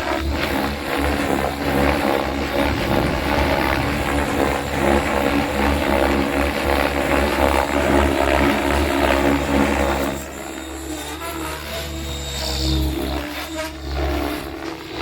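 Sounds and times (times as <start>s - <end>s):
electric motor whine: 0.0s - 15.0s
rc helicopter rotor whirring: 0.0s - 15.0s.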